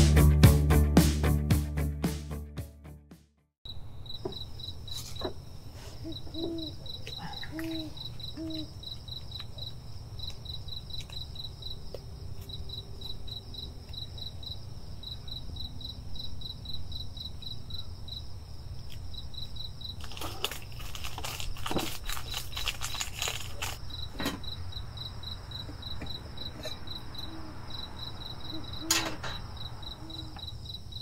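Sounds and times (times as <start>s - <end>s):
crickets chirping: 3.7s - 31.0s.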